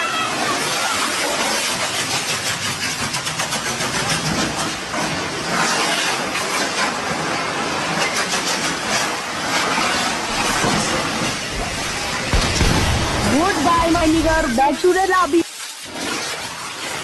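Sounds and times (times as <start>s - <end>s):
fireworks hissing and crackling: 0.1s - 17.0s.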